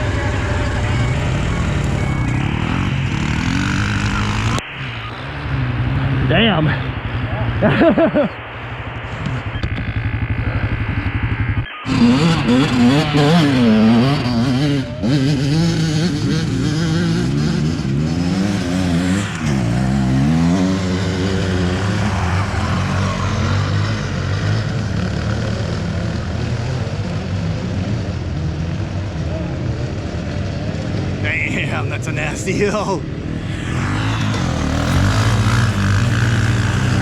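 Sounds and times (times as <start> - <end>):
motorcycle engine revving: 0.0 - 31.2, 33.0 - 37.0.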